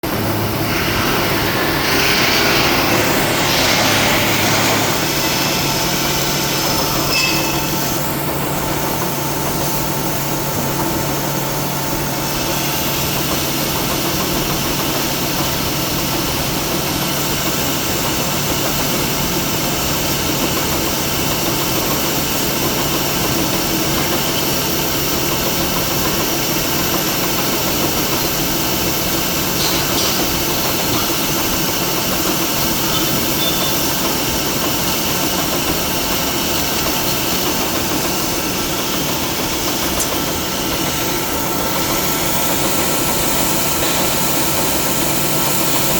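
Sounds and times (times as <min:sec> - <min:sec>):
industrial machinery humming: 0:00.0 - 0:45.9.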